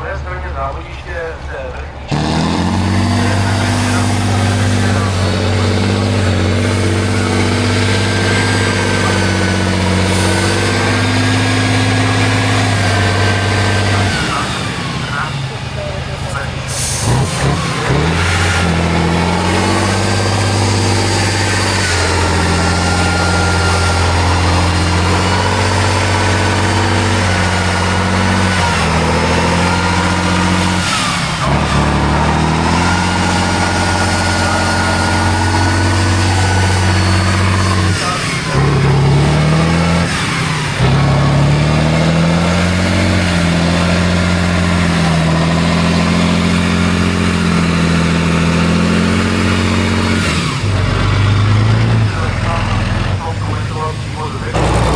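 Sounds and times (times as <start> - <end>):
diesel truck engine running: 0.0 - 54.9.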